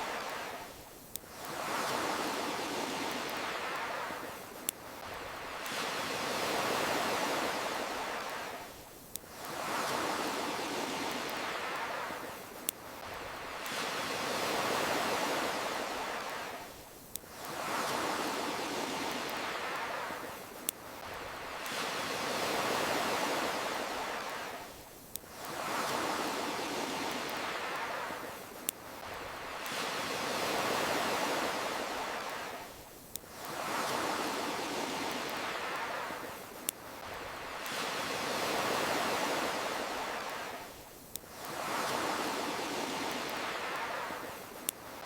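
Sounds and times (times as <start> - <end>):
campfire crackle: 0.0 - 45.0
ocean waves washing ashore: 0.0 - 45.0.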